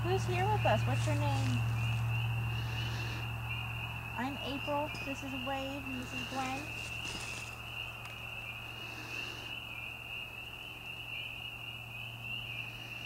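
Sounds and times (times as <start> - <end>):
frogs and insects calling: 0.0 - 13.0
low steady hum: 0.0 - 13.0.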